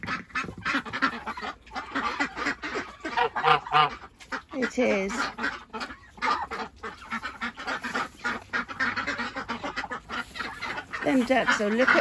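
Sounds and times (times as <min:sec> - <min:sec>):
ducks quacking: 0:00.0 - 0:12.0
geese honking: 0:00.0 - 0:12.0.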